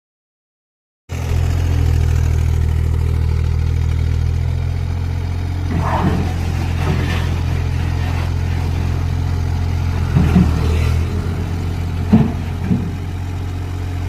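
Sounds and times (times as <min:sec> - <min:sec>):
diesel engine running: 0:01.1 - 0:14.0.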